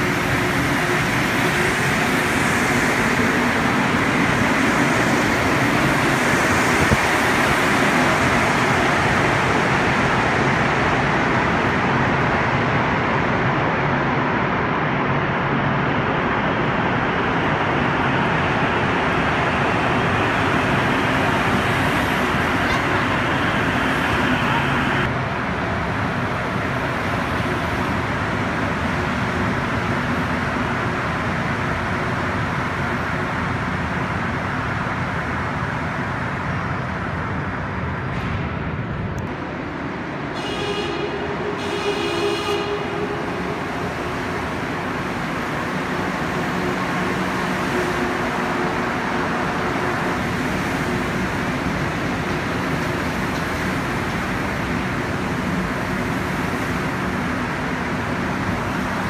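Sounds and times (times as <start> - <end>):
train pulling in: 0.0 - 59.0
train running rumble and hiss: 0.0 - 59.0.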